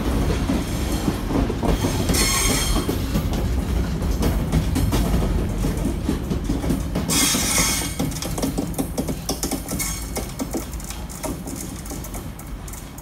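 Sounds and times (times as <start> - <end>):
low train rumble: 0.0 - 13.0
train wheels clicking over rail joints: 0.0 - 13.0.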